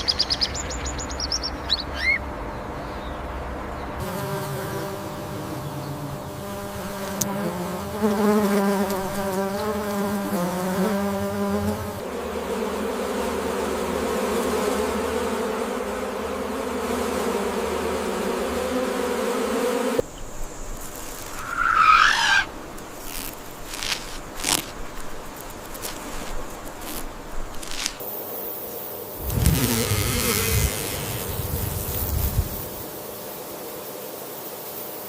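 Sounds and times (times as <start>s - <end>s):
insect wing buzz: 4.0s - 35.0s.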